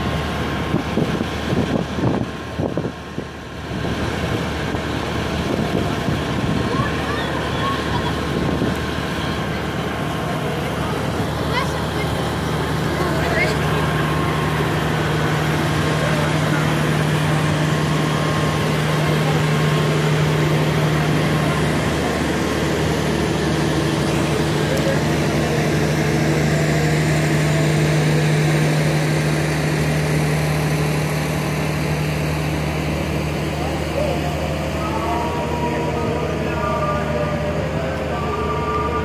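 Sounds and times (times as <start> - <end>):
train engine idling: 0.0 - 39.0.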